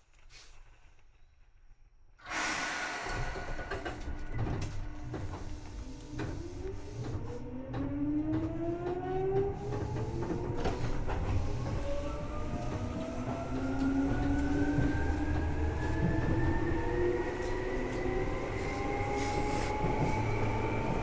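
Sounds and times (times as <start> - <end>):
electric train running noise: 2.2 - 21.0.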